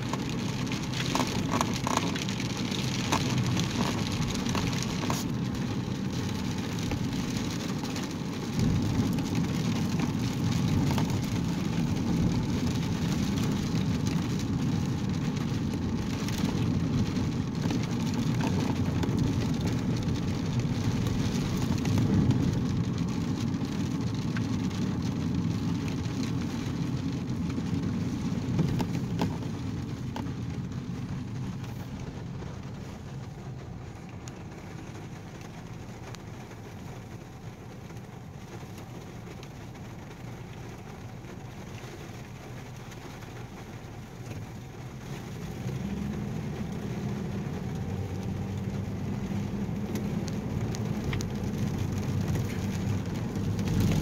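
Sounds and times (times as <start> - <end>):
engine and tyres on wet road: 0.0 - 54.0
rain on car: 0.0 - 54.0.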